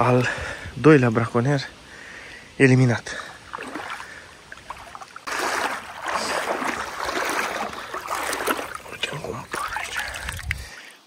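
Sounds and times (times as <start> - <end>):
shallow river water rushing: 1.8 - 11.0.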